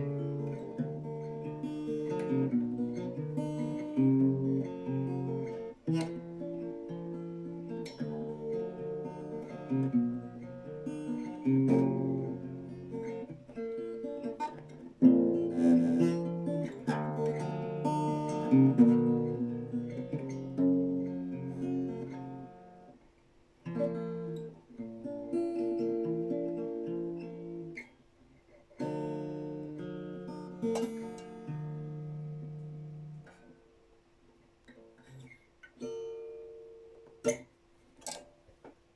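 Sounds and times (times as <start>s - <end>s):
acoustic guitar strumming chords: 0.0s - 23.0s, 28.8s - 33.7s, 34.9s - 38.4s.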